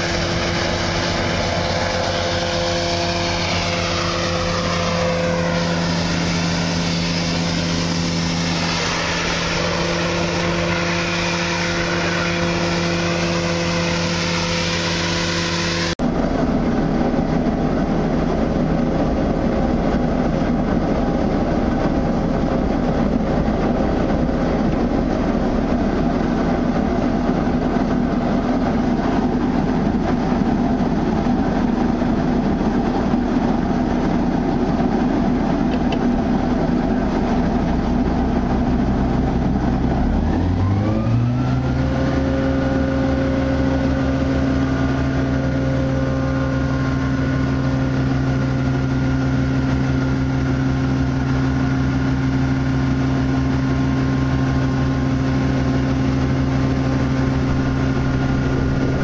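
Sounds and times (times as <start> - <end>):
diesel engine idling and revving: 0.0 - 59.0.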